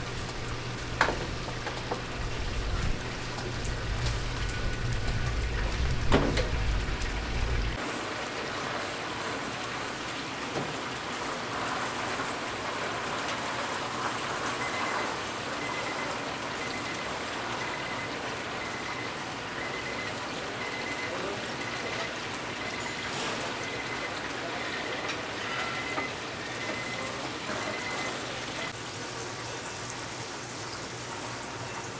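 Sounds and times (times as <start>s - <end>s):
chicken deep-frying in oil: 0.0s - 31.9s.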